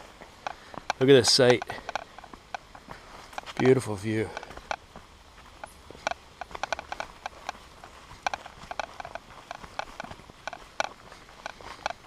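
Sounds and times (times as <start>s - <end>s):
footsteps on rocky dirt path: 0.0s - 12.0s.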